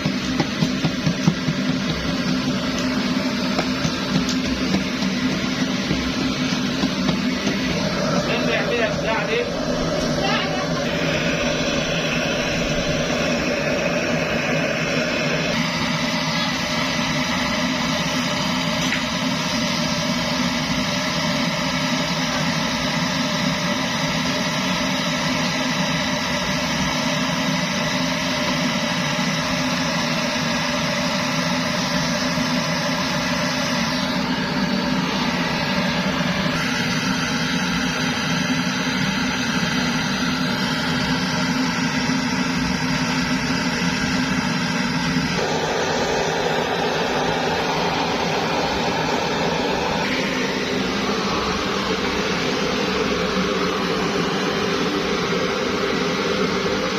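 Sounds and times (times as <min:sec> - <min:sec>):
pressure stove burning: 0:00.0 - 0:56.9.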